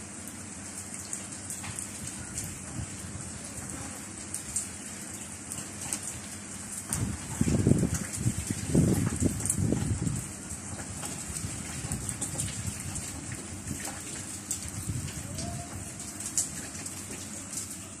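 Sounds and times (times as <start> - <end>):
raindrops ticking on hard surfaces: 0.0 - 18.0
steady rain: 0.0 - 18.0.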